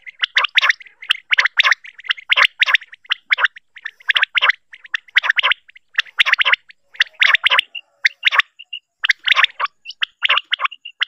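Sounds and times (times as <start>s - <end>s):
quail calling: 0.0s - 11.0s.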